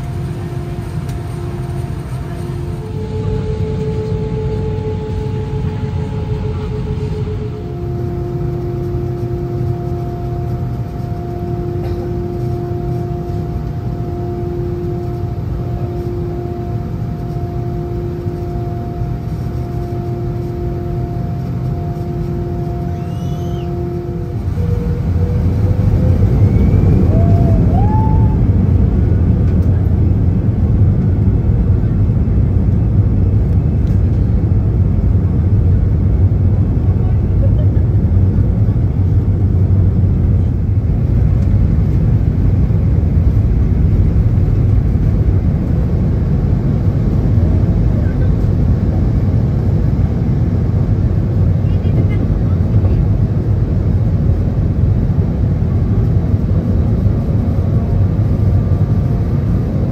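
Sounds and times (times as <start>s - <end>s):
aircraft engine hum: 0.0s - 59.9s
aircraft engine rumble: 0.0s - 59.9s.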